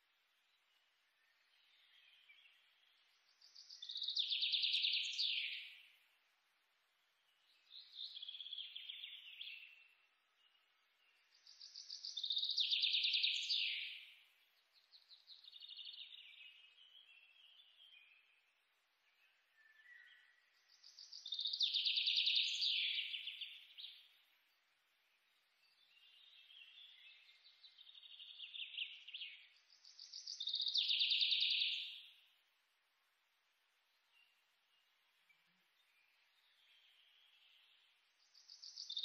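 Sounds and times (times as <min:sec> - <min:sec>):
bird chirping: 0:00.2 - 0:06.2, 0:07.0 - 0:39.0.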